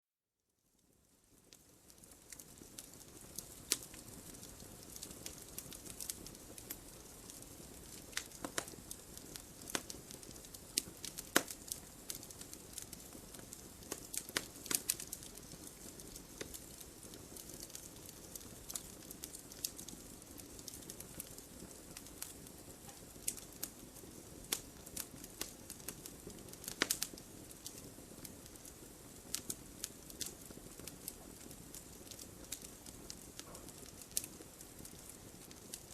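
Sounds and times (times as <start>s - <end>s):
soft hiss of flames: 0.5s - 35.9s
burning wood popping and snapping: 1.5s - 35.9s.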